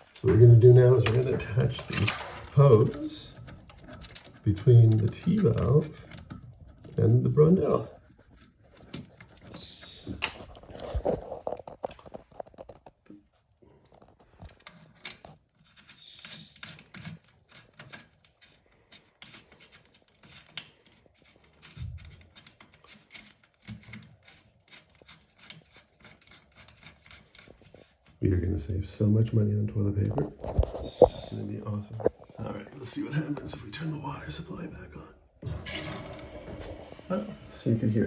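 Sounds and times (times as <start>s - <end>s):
plumbing parts clicking and scraping: 0.0s - 38.0s.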